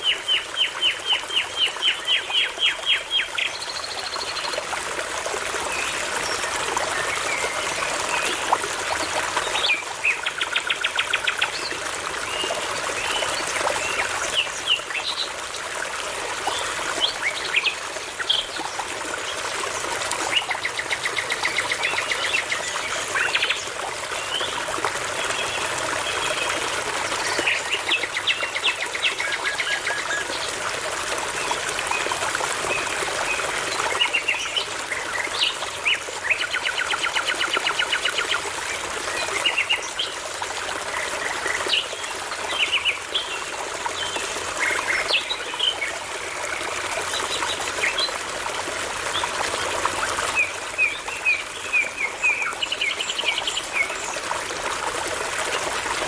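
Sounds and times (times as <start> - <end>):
babbling brook: 0.0 - 56.0.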